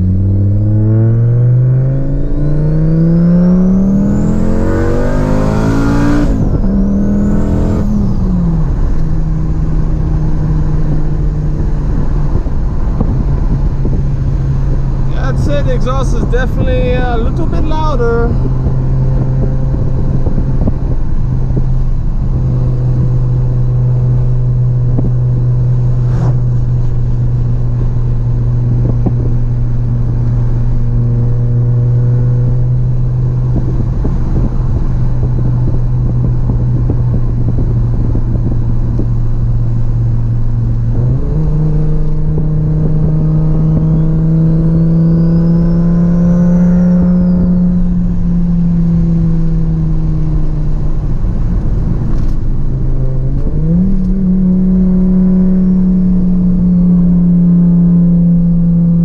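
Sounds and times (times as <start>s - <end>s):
car engine and exhaust from cabin: 0.0s - 59.0s.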